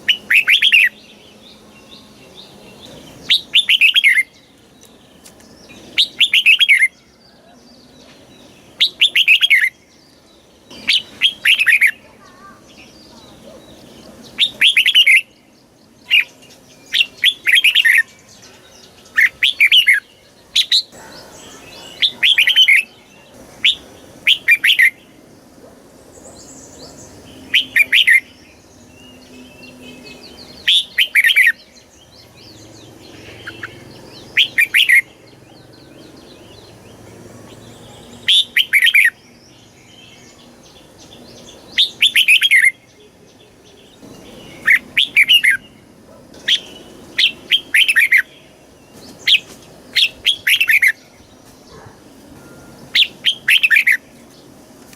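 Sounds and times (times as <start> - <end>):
bird singing bubbly phrases: 0.0 - 25.2, 26.4 - 45.8, 46.4 - 51.8
faint bird chirping: 0.0 - 54.9.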